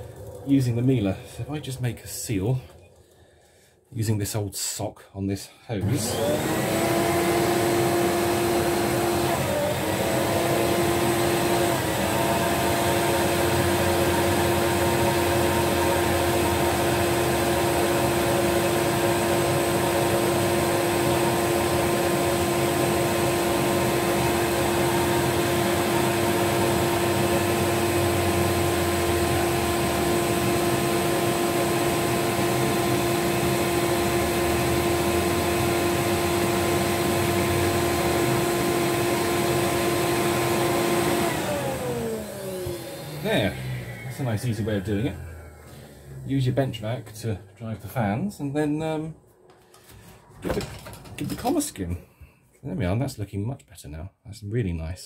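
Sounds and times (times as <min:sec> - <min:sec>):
vacuum cleaner running: 0:00.0 - 0:02.9, 0:05.8 - 0:51.6.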